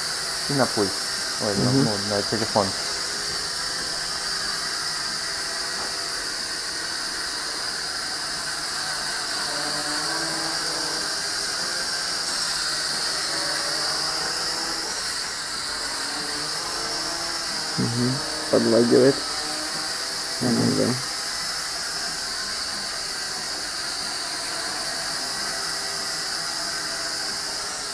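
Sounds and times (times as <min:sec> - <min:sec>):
drone propellers whining: 0:00.0 - 0:27.9.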